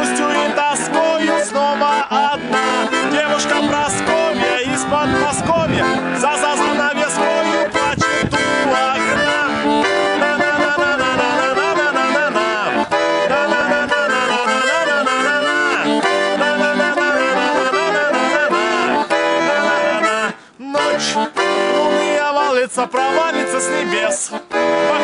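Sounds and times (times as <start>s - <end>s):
button accordion melody: 0.0s - 25.0s.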